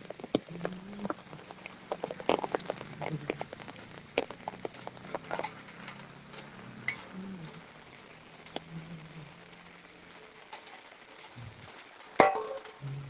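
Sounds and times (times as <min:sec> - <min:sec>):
raindrops pattering on hard surfaces: 0:00.0 - 0:13.0.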